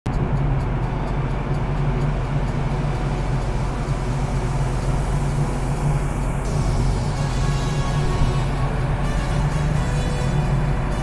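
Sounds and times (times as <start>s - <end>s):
ship diesel engines droning: 0.1s - 11.0s.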